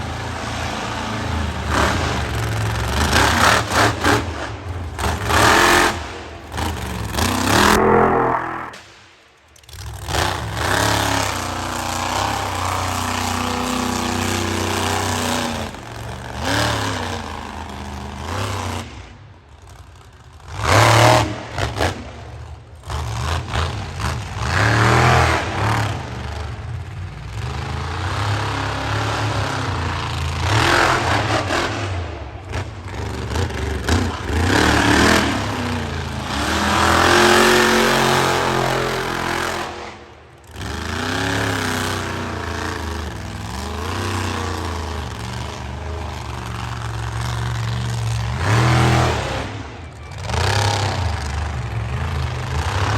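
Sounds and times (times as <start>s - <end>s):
monster truck engine revving: 0.0s - 52.9s.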